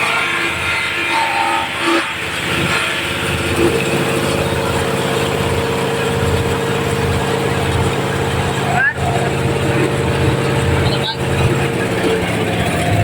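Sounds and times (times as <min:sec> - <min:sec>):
chopping machine diesel engine: 0:00.0 - 0:13.0.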